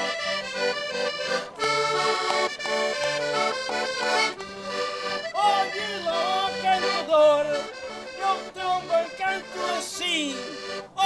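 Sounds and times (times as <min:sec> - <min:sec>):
concertinas playing folk music: 0:00.0 - 0:11.0.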